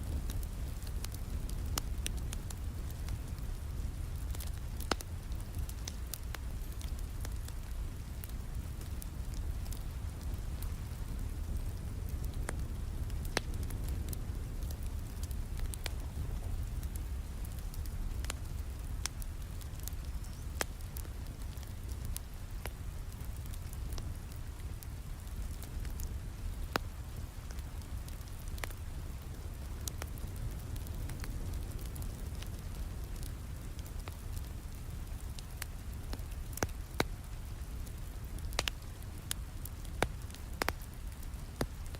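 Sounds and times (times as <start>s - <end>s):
steady rain: 0.0s - 41.9s
wood fire crackling and popping: 0.0s - 41.9s.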